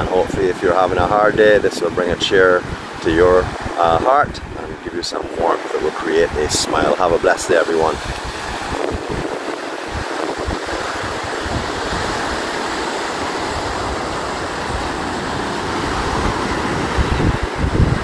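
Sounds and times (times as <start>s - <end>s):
small waves breaking on sand: 0.0s - 18.0s
wind buffeting the microphone: 0.0s - 18.0s.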